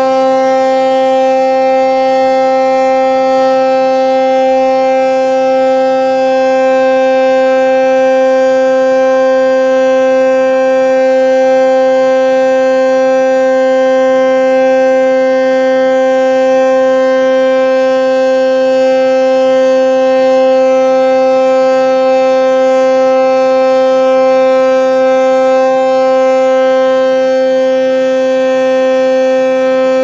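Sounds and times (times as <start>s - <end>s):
ship's horn long blast: 0.0s - 30.0s.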